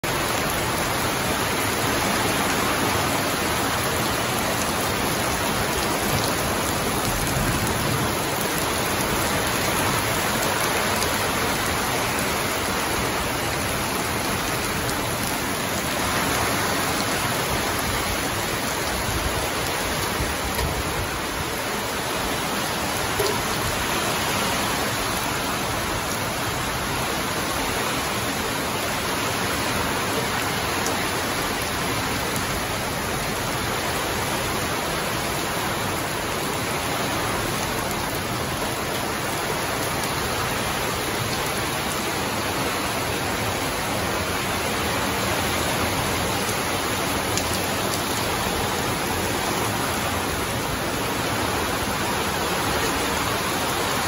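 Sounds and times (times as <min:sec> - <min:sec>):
heavy rain on foliage: 0:00.0 - 0:54.0.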